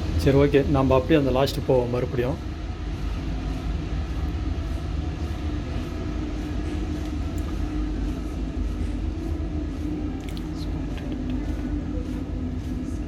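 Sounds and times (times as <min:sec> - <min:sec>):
machinery and ventilation hum: 0:00.0 - 0:13.0.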